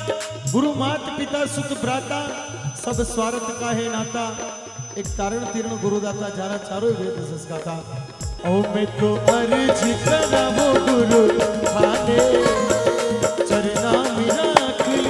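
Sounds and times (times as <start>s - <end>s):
keyboard melody: 0.0s - 15.0s
man singing: 0.0s - 15.0s
tabla rhythm: 0.0s - 15.0s.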